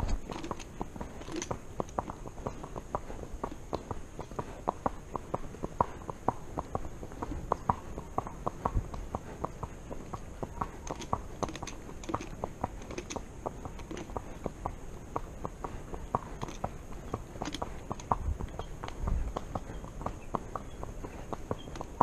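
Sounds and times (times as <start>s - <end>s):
horse hooves clopping on asphalt: 0.0s - 22.0s.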